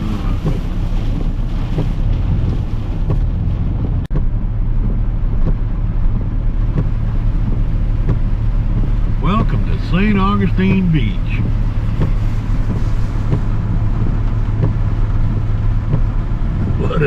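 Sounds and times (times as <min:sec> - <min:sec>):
engine and road rumble: 0:00.0 - 0:17.0
wind noise: 0:00.0 - 0:17.0.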